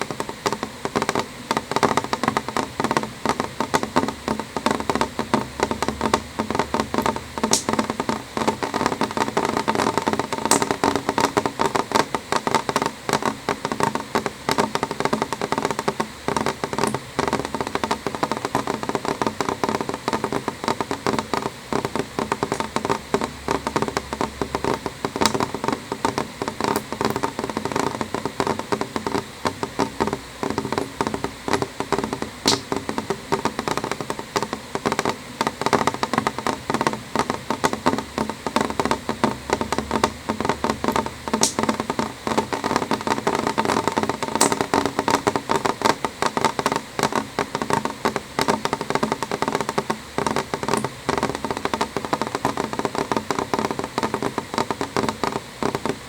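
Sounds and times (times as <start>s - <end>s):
rain tapping on window glass: 0.0s - 56.0s.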